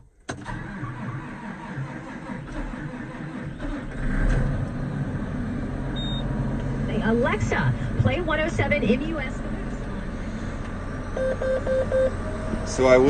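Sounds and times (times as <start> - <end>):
diesel tractor engine starting: 0.0 - 13.0.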